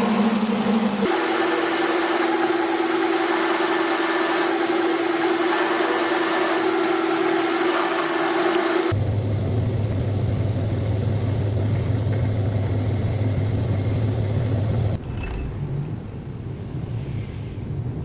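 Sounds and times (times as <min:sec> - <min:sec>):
lathe humming: 0:00.0 - 0:15.0.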